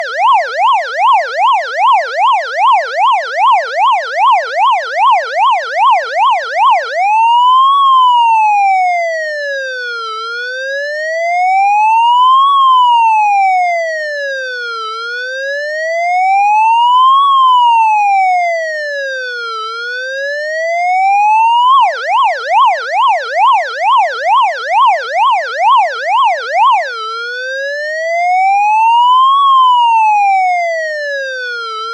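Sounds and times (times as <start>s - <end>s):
police siren yelp and wail: 0.0s - 31.9s.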